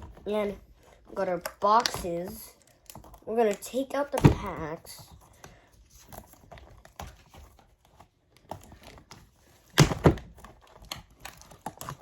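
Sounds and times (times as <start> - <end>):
cardboard box and packs rustling: 0.0 - 12.0.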